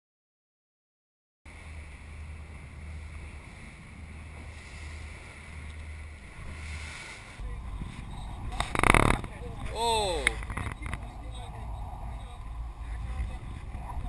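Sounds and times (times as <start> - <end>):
boat engine low rumble: 1.5 - 14.0
water rushing past hull: 1.5 - 14.0
wind noise on microphone: 1.5 - 14.0.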